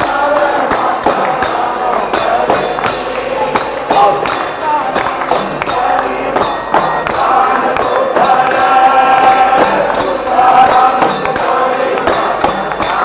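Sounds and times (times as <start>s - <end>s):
hand percussion: 0.0s - 13.0s.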